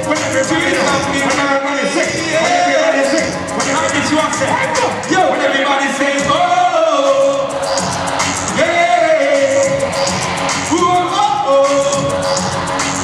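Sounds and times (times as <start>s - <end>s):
concert music through pa: 0.0s - 13.0s.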